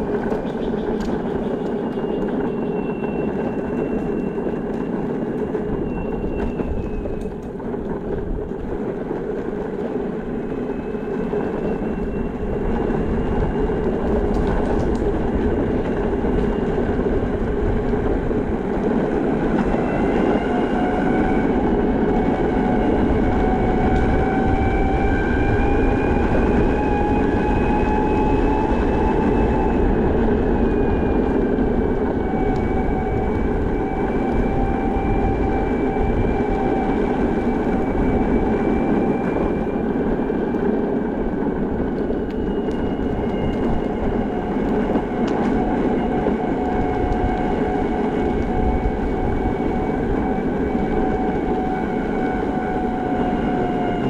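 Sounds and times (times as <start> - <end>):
wheels rolling on pavement: 0.0 - 54.0.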